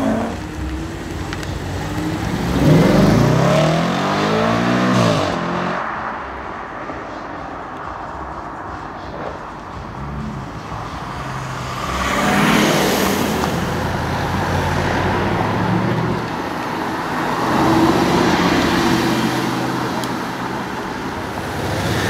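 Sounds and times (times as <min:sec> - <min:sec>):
car engines accelerating hard: 0:00.0 - 0:22.0.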